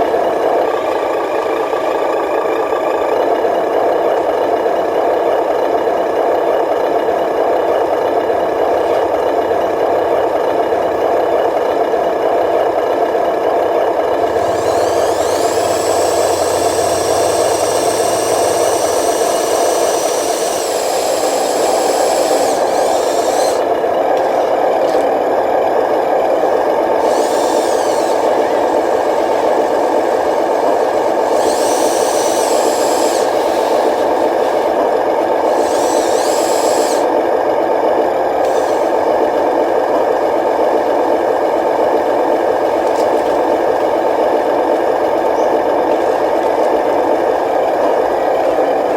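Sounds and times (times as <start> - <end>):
high motor whine: 0.0 - 48.9
toy trucks droning and rattling: 0.0 - 48.9.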